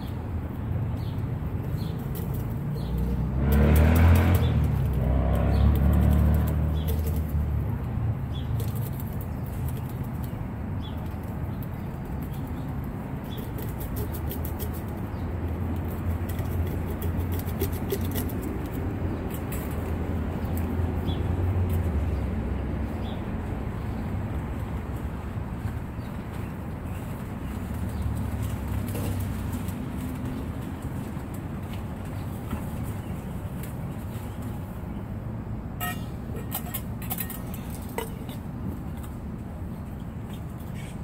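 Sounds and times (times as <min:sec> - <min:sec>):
vehicle passing rumble: 0:00.0 - 0:39.6.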